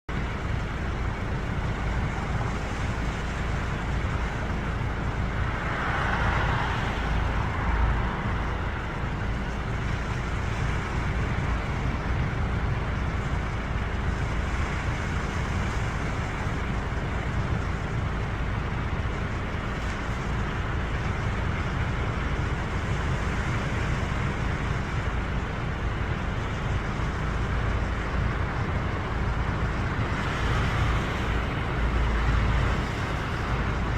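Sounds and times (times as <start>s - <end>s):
sea waves washing onto shore: 0.1s - 33.9s.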